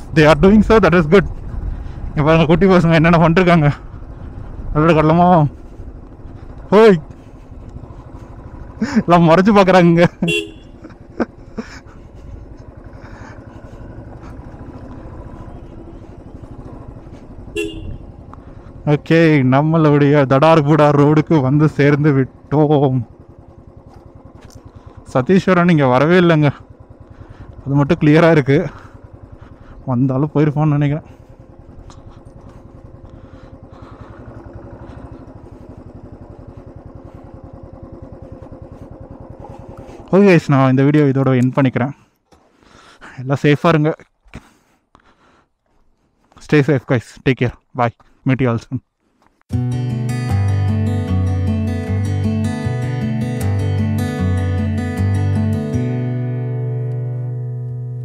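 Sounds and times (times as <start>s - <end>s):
motorcycle engine running: 0.0s - 43.6s, 49.5s - 58.0s.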